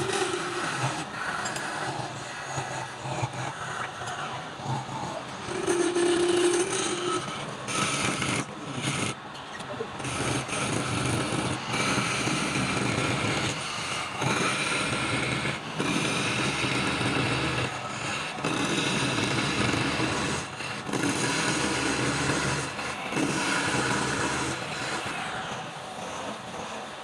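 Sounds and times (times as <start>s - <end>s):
power tool cutting wood: 0.0s - 4.1s, 4.7s - 9.2s, 9.9s - 26.9s.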